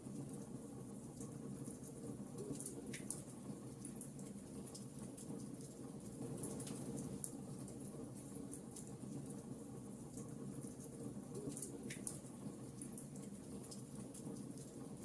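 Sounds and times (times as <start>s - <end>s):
soft rustle of flames: 0.0s - 15.0s.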